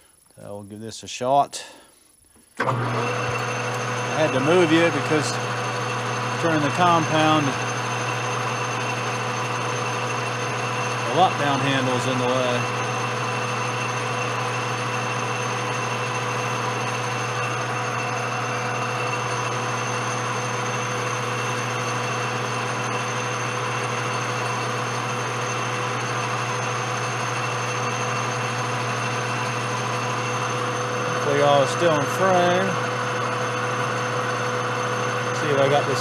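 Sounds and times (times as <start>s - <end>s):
metal lathe humming and whining: 2.6s - 36.0s.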